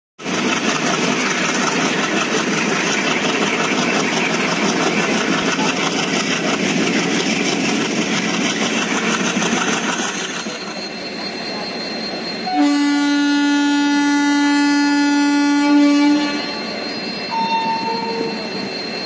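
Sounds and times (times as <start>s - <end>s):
diesel locomotive engine working hard: 0.2s - 19.0s
train running noise: 0.2s - 19.0s.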